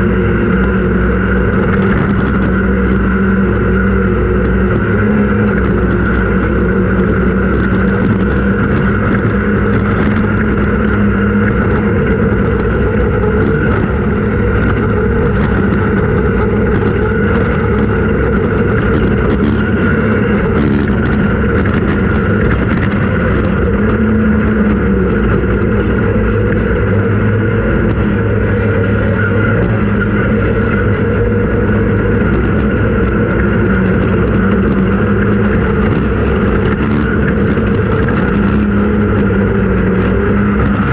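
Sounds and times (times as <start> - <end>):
race vehicle engine running hard: 0.0 - 40.9
rush of driving noise: 0.0 - 40.9.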